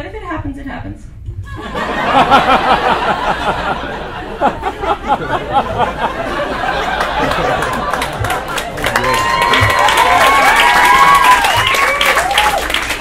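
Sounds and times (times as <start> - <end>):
audience laughing and cheering: 1.5 - 13.0
audience clapping: 2.2 - 13.0.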